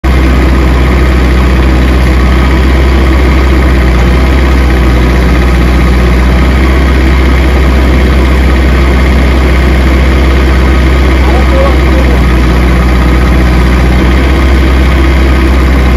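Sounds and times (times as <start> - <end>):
trencher engine running: 0.0 - 15.9.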